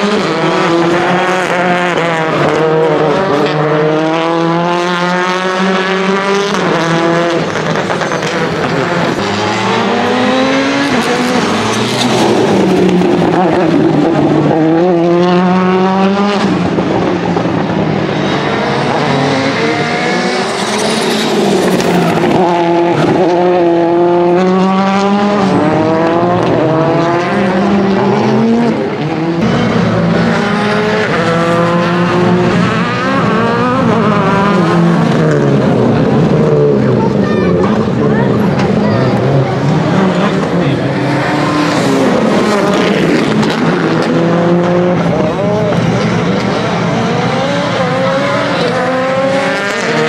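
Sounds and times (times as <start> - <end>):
rally car engines accelerating: 0.0 - 50.0.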